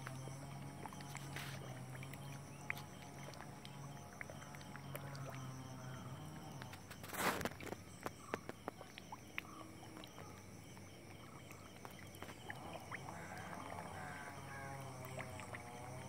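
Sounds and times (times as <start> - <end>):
fish gulping at water surface: 0.0 - 16.0.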